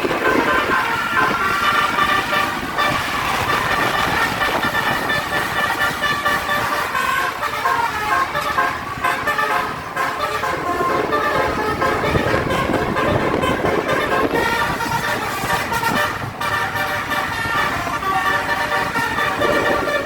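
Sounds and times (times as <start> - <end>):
musical air horn: 0.0 - 20.0
vehicle noise: 0.0 - 20.0.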